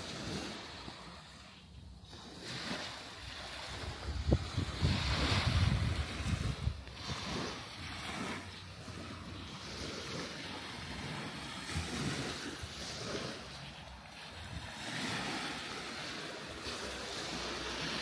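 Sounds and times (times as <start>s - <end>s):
small waves on sandy beach: 0.0s - 18.0s
wind rumble on microphone: 0.0s - 18.0s.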